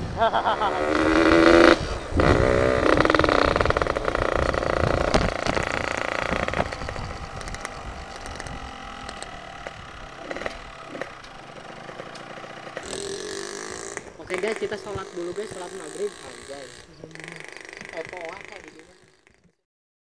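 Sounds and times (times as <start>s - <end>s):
motorcycle revving: 0.0s - 19.6s.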